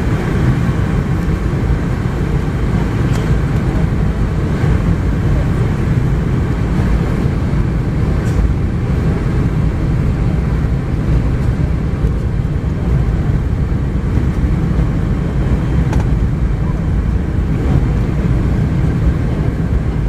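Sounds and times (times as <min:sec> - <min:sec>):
air rushing along fuselage: 0:00.0 - 0:20.0
jet engine cabin rumble: 0:00.0 - 0:20.0.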